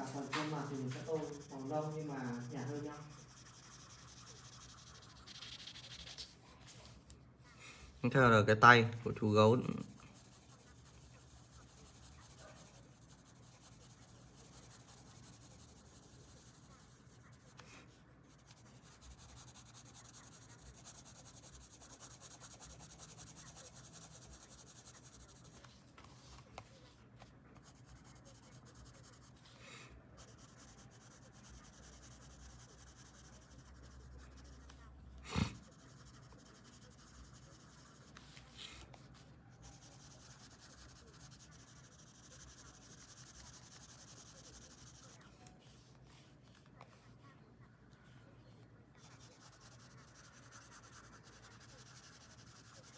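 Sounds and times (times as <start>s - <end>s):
pencil scratching on paper: 0.0s - 7.0s, 9.4s - 27.0s, 27.6s - 29.6s, 30.2s - 47.1s, 49.0s - 52.9s.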